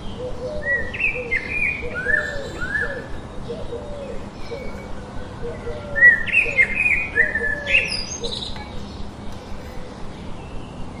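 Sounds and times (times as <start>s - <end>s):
birds whistling: 0.0s - 9.7s
faint bird chirps: 0.0s - 11.0s.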